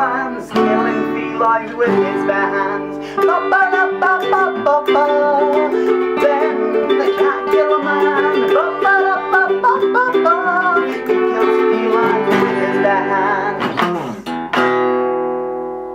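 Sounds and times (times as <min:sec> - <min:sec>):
acoustic guitar strumming: 0:00.0 - 0:15.9
ukulele strumming: 0:00.0 - 0:15.9.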